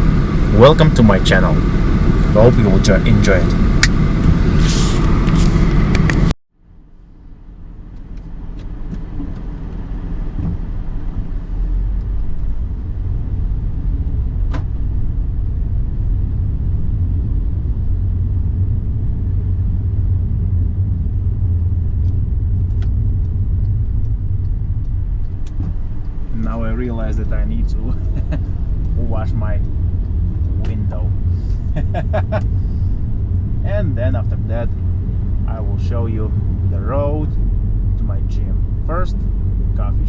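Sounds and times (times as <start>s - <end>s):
road and engine rumble: 0.0s - 40.0s.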